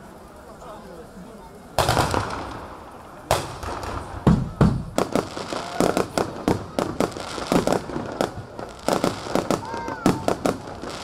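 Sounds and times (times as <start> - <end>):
fireworks bangs and cracks: 1.6 - 11.0.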